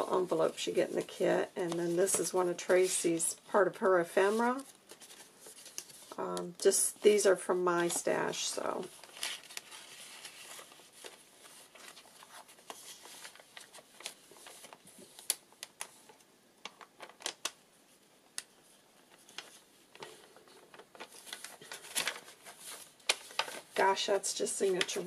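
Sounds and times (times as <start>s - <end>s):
paper pages rustling: 0.0s - 17.6s, 18.4s - 25.0s.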